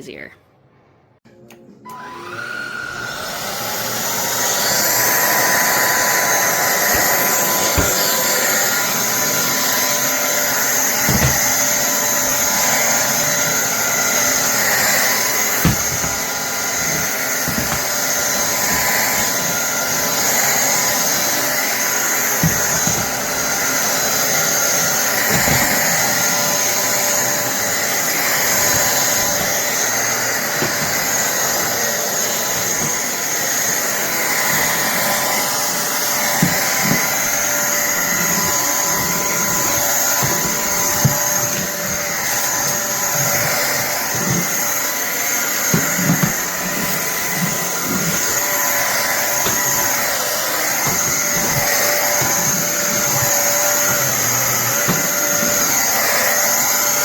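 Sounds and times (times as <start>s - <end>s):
vacuum cleaner motor whining: 1.8s - 57.0s.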